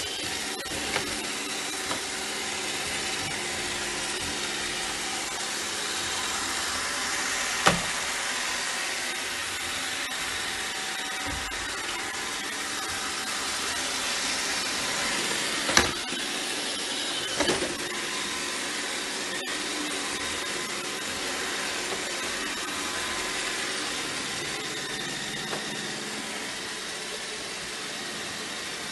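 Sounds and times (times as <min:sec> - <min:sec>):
robot vacuum whirring: 0:00.0 - 0:28.9.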